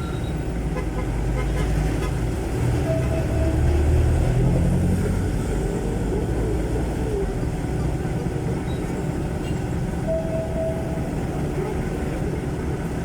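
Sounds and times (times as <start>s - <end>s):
loud diesel engine exhaust: 0.0s - 13.0s.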